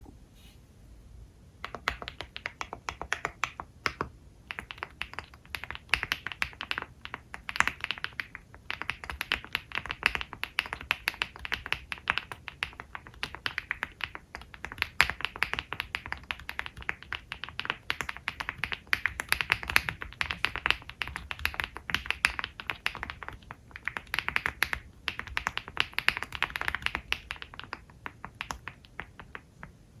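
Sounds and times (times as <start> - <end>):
mechanical keyboard typing: 1.6 - 29.4.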